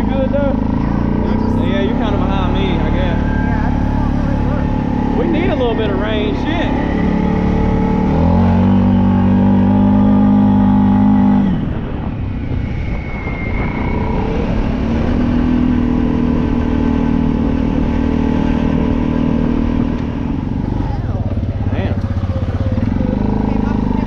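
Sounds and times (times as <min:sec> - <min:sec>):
small vehicle engine running: 0:00.0 - 0:24.0.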